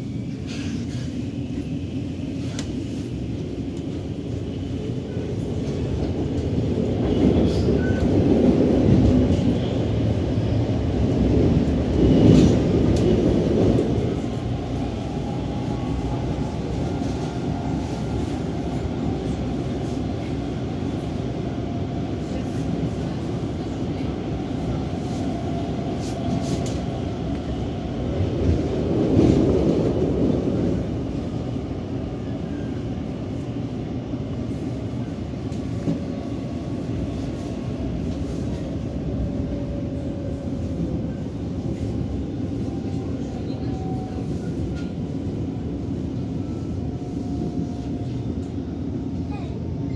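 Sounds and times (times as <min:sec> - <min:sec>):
metro train rumbling on rails: 0:00.0 - 0:49.9.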